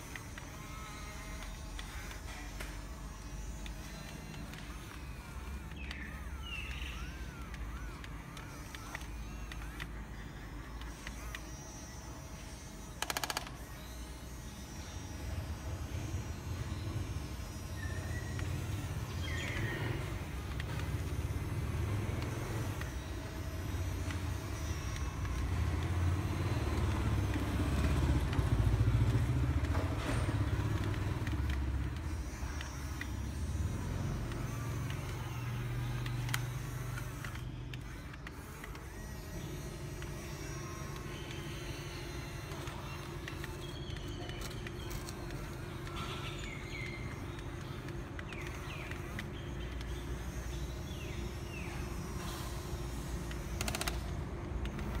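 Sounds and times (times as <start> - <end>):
model excavator motors running: 0.0 - 55.0.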